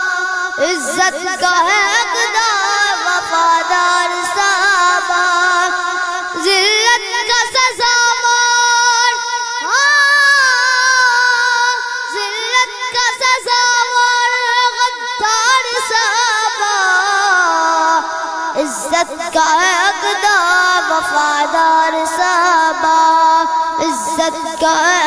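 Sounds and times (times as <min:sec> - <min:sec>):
boy singing into a microphone: 0:00.0 - 0:25.0.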